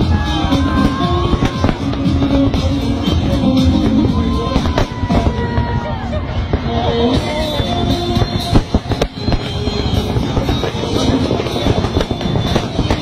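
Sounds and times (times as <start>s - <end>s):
loud music with drum beat: 0.0s - 5.7s, 6.6s - 13.0s
firework bangs: 0.0s - 13.0s
fireworks popping and crackling: 0.0s - 13.0s.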